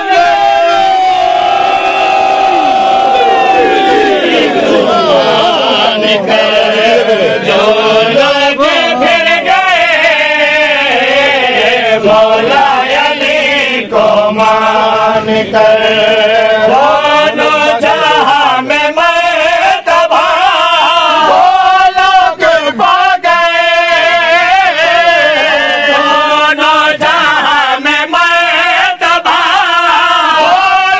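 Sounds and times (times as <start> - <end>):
men chanting devotional song: 0.0 - 30.9.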